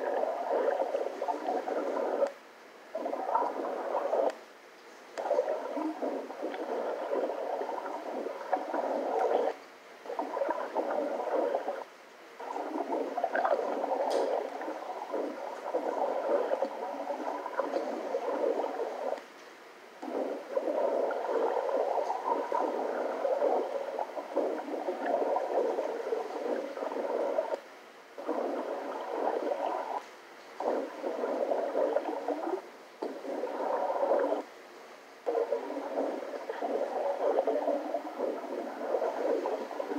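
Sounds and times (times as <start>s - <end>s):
muffled underwater gurgling: 0.0s - 4.4s, 5.1s - 19.3s, 20.0s - 34.6s, 35.2s - 39.9s.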